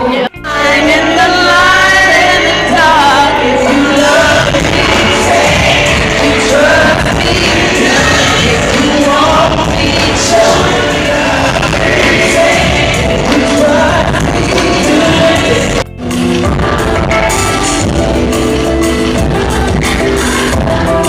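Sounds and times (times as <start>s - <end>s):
loud music with singing: 0.0s - 21.0s
pop song with vocals: 0.0s - 21.0s.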